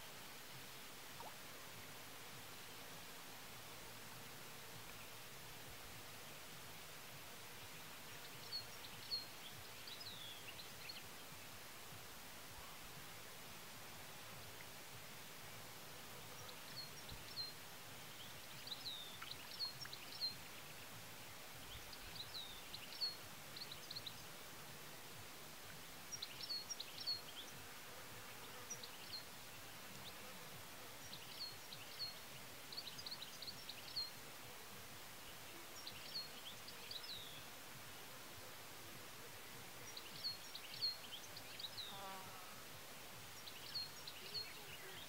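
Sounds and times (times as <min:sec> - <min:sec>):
faint steady hiss: 0:00.0 - 0:45.0
songbird chirping: 0:00.0 - 0:45.0.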